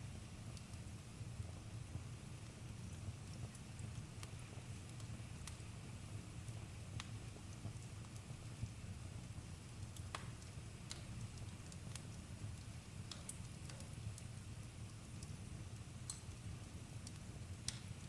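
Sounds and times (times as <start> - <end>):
campfire crackling and popping: 0.5 - 8.4, 9.3 - 18.0.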